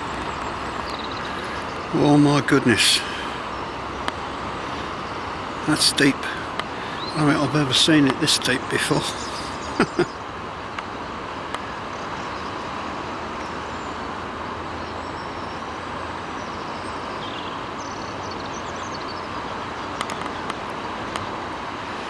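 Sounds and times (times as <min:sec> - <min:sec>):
river rushing: 0:00.0 - 0:22.0.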